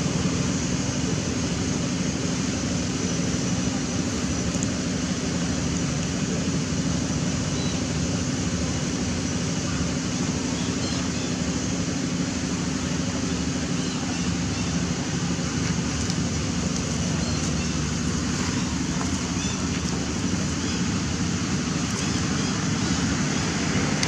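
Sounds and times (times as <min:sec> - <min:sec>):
low steady hum: 0:00.0 - 0:24.0
rushing outdoor background noise: 0:00.0 - 0:24.0.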